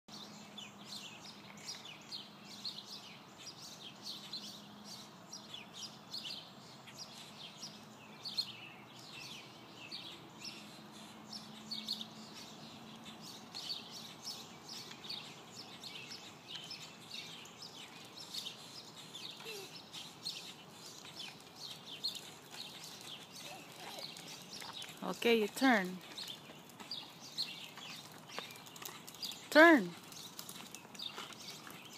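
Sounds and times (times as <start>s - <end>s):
birds chirping: 0.1s - 31.9s.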